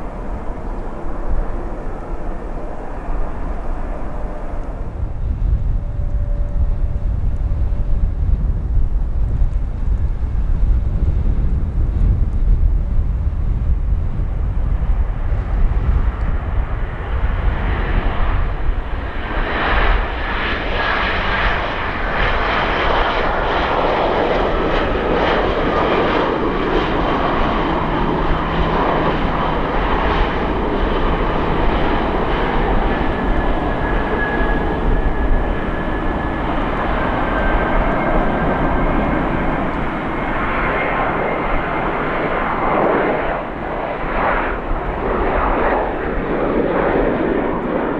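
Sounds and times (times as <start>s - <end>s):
airliner engines rushing: 0.0s - 47.9s.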